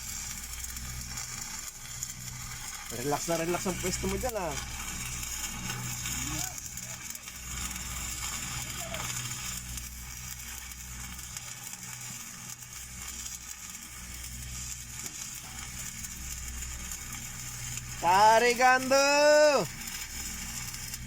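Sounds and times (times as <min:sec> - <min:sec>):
steady low hum: 0:00.0 - 0:21.0
welding arc crackling and sizzling: 0:00.0 - 0:21.0.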